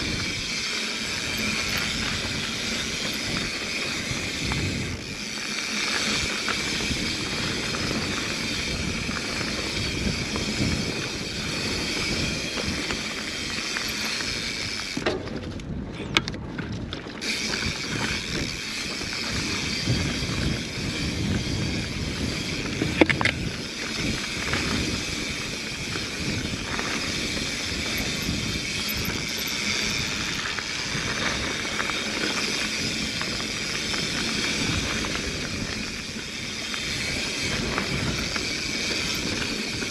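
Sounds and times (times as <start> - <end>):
wind on microphone: 0.0 - 5.3, 5.9 - 39.9
tyres rushing on dirt: 0.0 - 15.6, 16.7 - 39.9.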